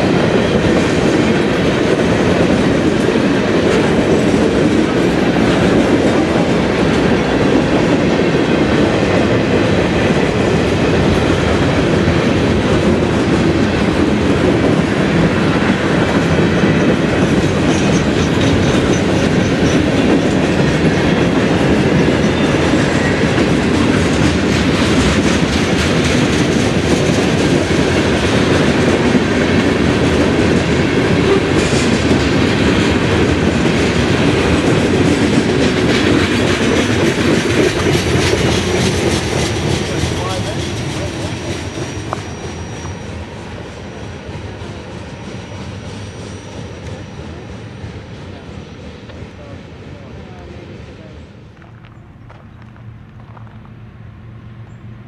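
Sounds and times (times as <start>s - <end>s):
clickety-clack over rail joints: 0.0s - 54.2s
freight train wheels rumbling: 0.0s - 55.0s.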